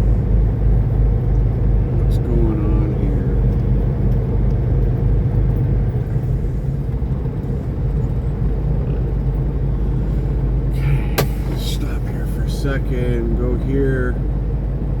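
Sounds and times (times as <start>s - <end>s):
truck diesel engine humming: 0.0s - 15.0s.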